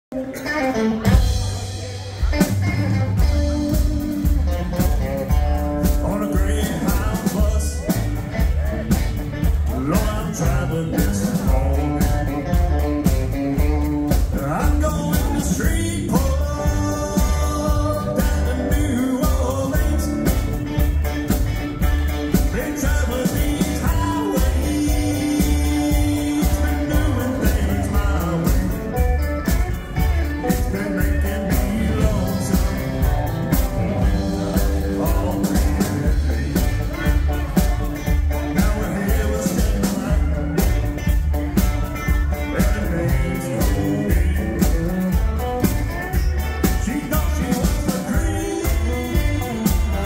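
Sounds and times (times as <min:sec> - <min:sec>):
country band playing: 0:00.0 - 0:50.0
electric lead guitar: 0:00.0 - 0:50.0
upright bass: 0:00.0 - 0:50.0
pedal steel guitar: 0:00.1 - 0:50.0
drum beat: 0:01.1 - 0:50.0.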